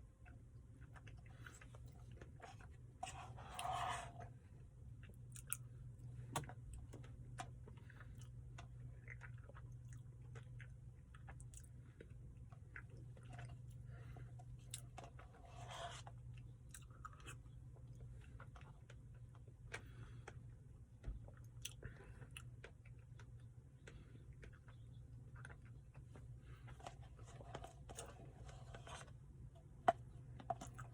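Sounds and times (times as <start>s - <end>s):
person chewing soft food: 0.0s - 30.9s
steady low hum: 0.0s - 30.9s.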